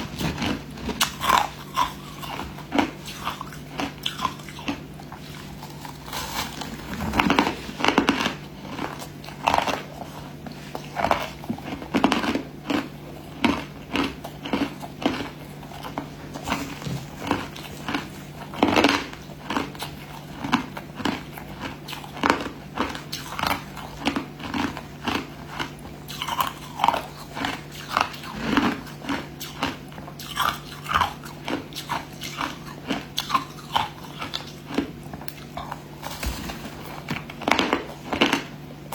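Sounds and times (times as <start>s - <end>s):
person chewing crushed ice: 0.0s - 38.9s.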